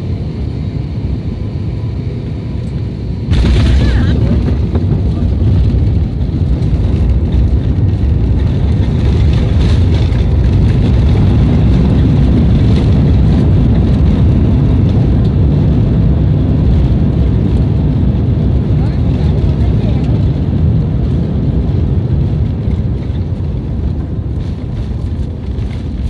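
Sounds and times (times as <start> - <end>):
jet airliner roar inside cabin: 0.0 - 26.0.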